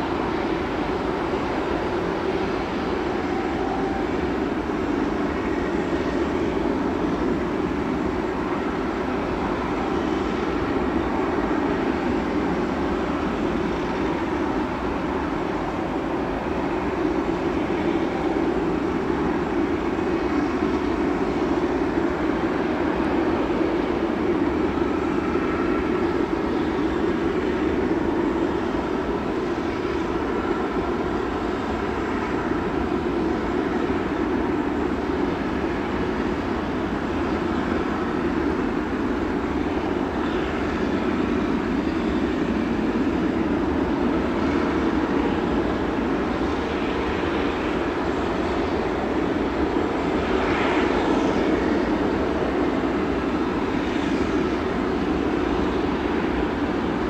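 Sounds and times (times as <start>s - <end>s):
jet engines running steadily: 0.0s - 57.0s.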